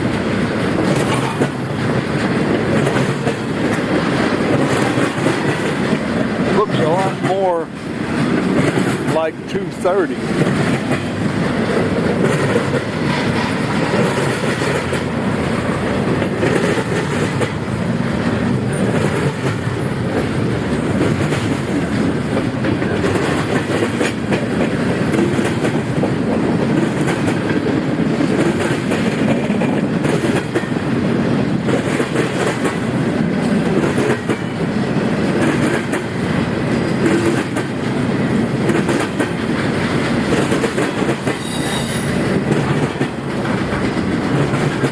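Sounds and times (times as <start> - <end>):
freight train cars rumbling: 0.0 - 44.9
wheels clacking over rail joints: 0.0 - 44.9.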